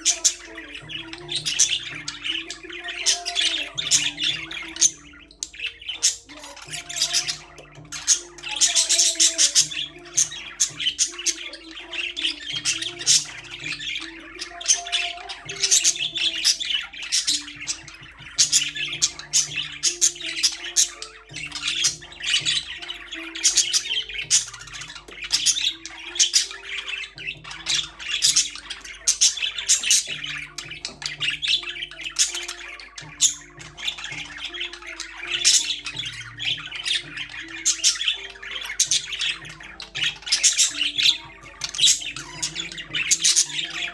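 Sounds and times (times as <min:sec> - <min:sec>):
background music: 0:00.0 - 0:43.9
budgerigars chirping: 0:00.0 - 0:43.9.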